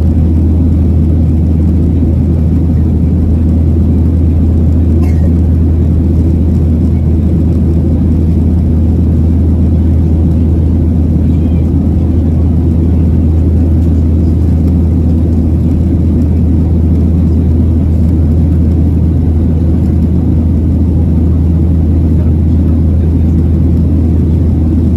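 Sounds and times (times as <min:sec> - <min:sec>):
airplane cabin drone: 0:00.0 - 0:24.9.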